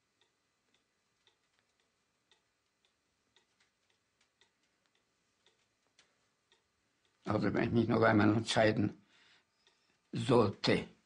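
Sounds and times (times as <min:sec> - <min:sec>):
wall clock ticking: 0:00.0 - 0:11.0.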